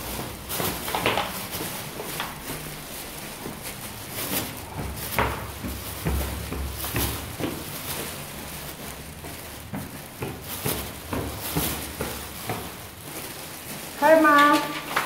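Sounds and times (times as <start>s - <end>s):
footsteps on tiled stairs: 0.0s - 15.0s.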